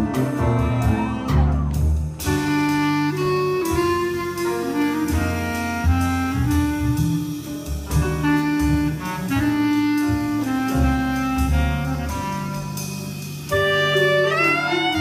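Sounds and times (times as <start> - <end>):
drums: 0.0 - 15.0
saxophones and brass chords: 0.0 - 15.0
walking double bass: 0.0 - 15.0.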